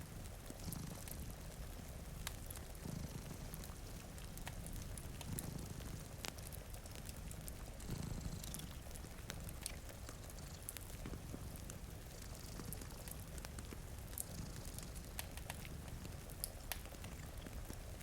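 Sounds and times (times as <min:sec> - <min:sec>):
cat purring: 0:00.0 - 0:18.0
log fire crackling with pops: 0:00.0 - 0:18.0
rain hissing: 0:00.0 - 0:18.0.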